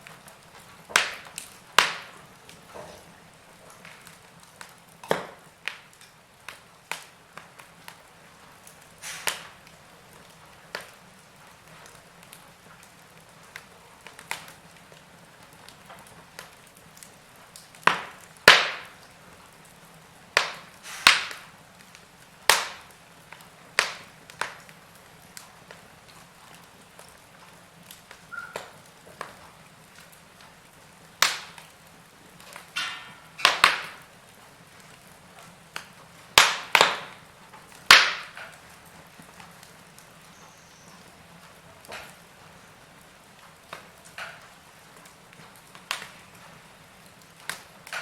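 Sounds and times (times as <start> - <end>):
log fire crackling: 0.0 - 48.0.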